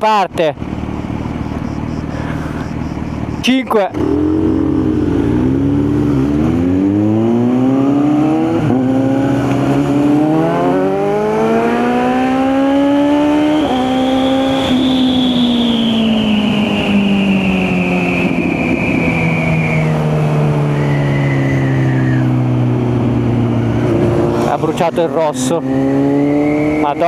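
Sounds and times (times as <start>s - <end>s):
motorcycle engine accelerating: 0.4s - 27.0s.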